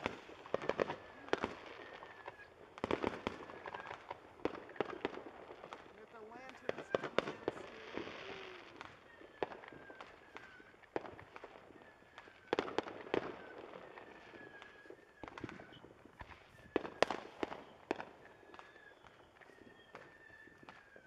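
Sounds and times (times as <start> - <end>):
fireworks and firecrackers popping: 0.0 - 21.0.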